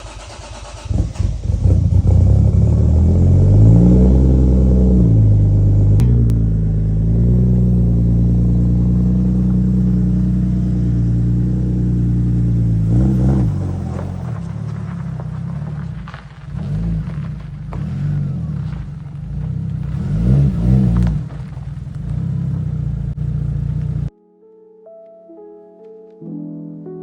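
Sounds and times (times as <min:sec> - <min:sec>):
car engine starting and revving: 0:00.0 - 0:24.1.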